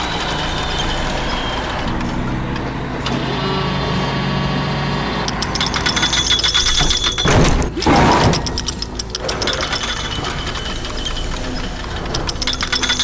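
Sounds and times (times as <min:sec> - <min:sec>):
rapid mechanical clicking: 0:00.0 - 0:13.0.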